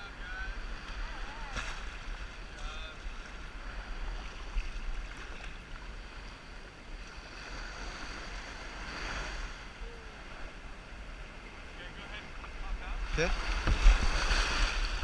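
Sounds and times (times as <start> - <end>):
water washing around kayak: 0.0 - 15.0
wind rumbling on microphone: 0.0 - 15.0.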